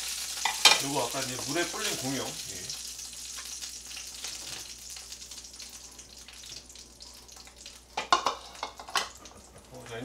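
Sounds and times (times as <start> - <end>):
dumplings sizzling in a frying pan: 0.0 - 10.0.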